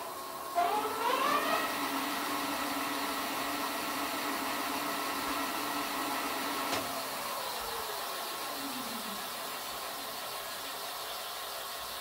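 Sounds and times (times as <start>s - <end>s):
electric hub motor whine: 0.0s - 10.6s.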